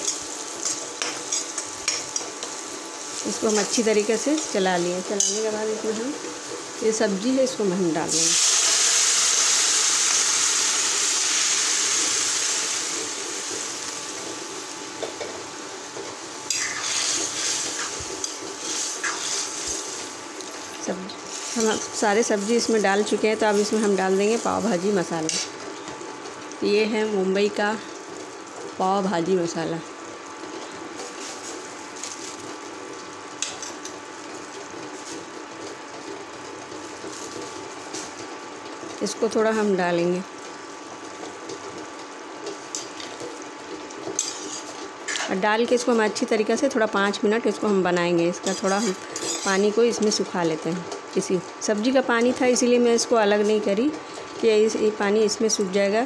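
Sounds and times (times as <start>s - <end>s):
vegetables sizzling in hot oil: 0.0s - 56.0s.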